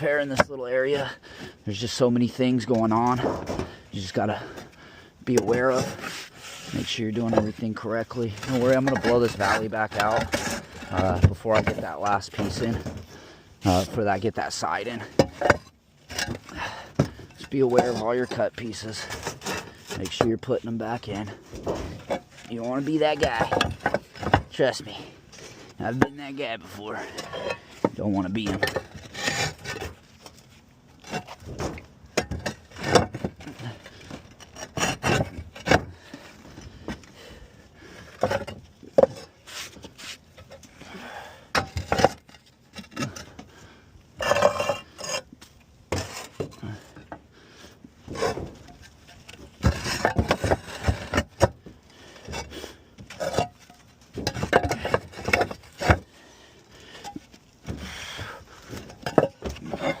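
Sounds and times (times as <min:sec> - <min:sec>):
roof tiles scraping and knocking: 0:00.0 - 1:00.0.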